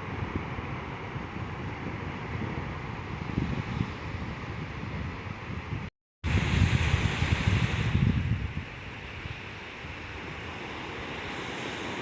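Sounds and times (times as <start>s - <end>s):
wind buffeting microphone: 0.0s - 11.2s
sea surf washing in: 0.0s - 12.0s.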